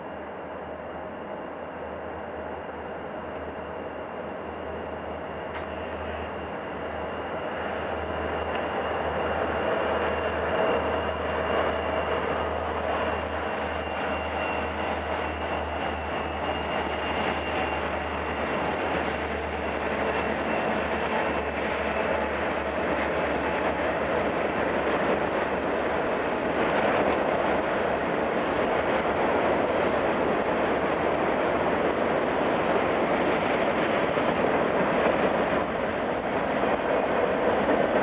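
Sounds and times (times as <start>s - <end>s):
locomotive engines droning: 0.0s - 38.0s
wheels rumbling on rail: 0.0s - 38.0s.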